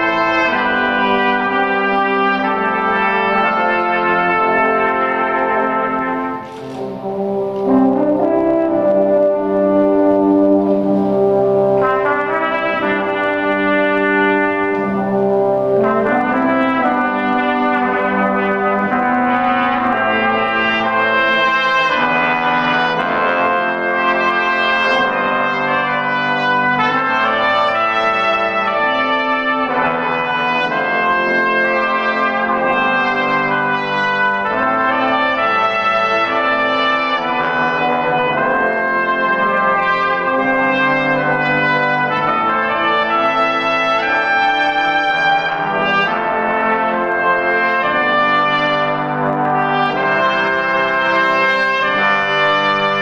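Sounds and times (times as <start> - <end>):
brass ensemble playing chords: 0.0 - 53.0
high trumpet lines: 0.0 - 53.0.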